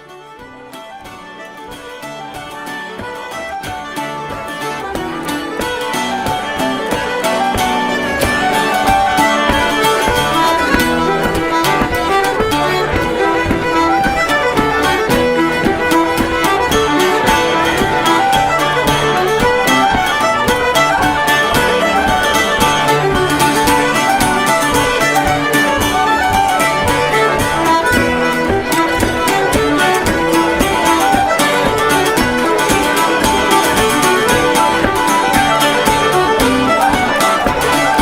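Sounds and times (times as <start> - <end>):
fiddle music: 0.0 - 38.0.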